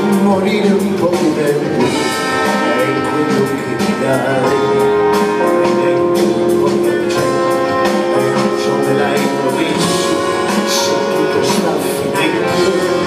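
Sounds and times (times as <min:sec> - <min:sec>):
drum kit steady beat: 0:00.0 - 0:13.0
long held instrumental notes: 0:00.0 - 0:13.0.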